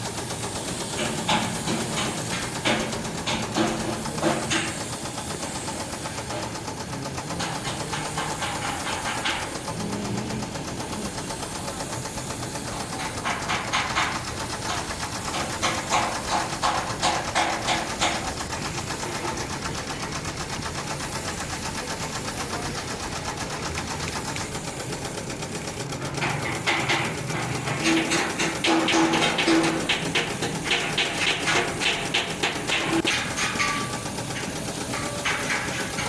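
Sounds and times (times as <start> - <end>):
machine knocking: 0.0 - 36.0.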